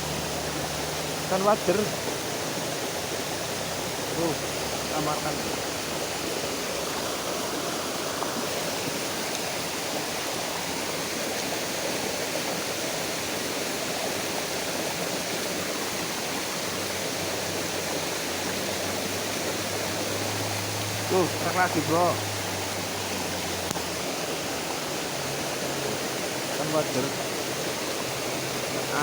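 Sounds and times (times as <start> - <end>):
shallow stream running: 0.0 - 29.0.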